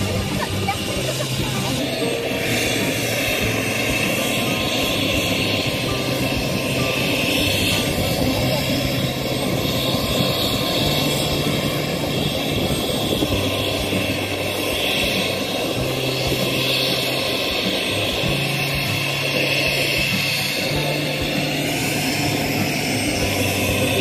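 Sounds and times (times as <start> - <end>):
helicopter turbine engines whining: 0.0 - 24.0.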